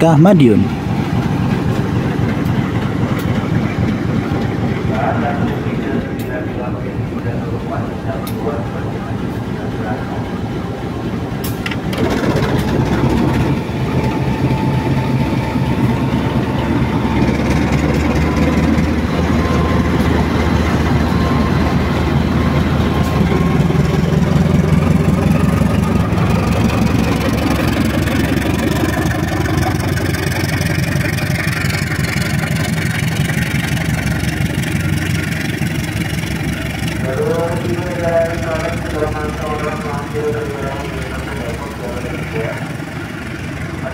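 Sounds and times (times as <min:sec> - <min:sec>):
locomotive diesel engine drone: 0:00.0 - 0:43.9
train cars rolling past: 0:00.7 - 0:43.9.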